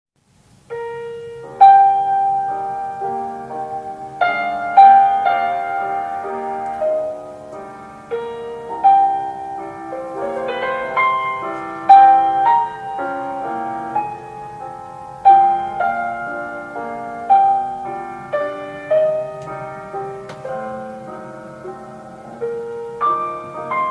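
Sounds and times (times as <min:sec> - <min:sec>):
slow classical piano piece: 0:00.2 - 0:23.9.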